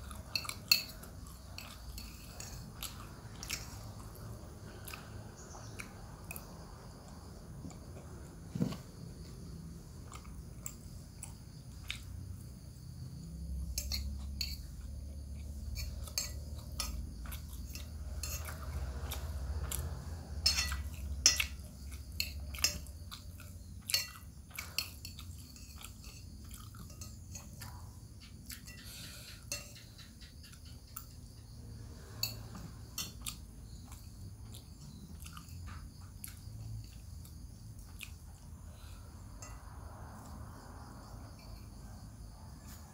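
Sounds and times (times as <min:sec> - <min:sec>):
chewing: 0:00.0 - 0:29.9, 0:32.3 - 0:40.6.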